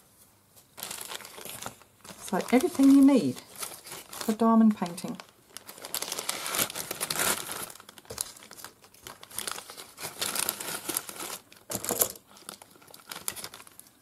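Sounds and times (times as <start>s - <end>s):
plastic bag crinkling: 0.6s - 14.0s.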